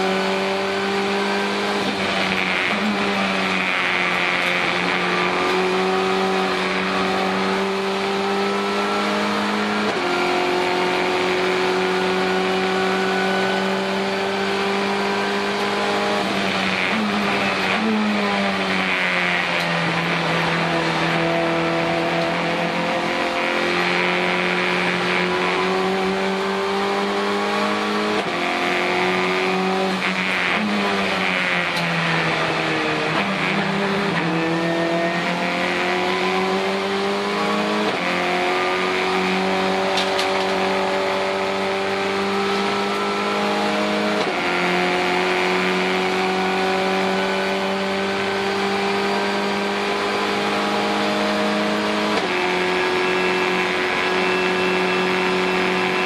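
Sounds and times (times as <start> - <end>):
gear changes: 0.0 - 56.0
race car engine revving: 0.0 - 56.0.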